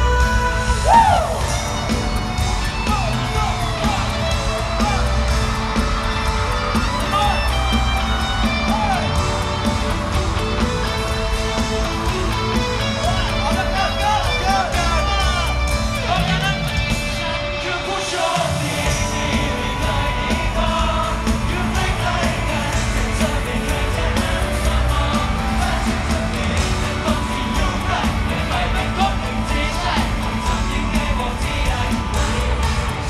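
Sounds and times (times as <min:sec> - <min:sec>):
band playing pop song: 0:00.0 - 0:33.0
people singing into microphones: 0:00.0 - 0:33.0.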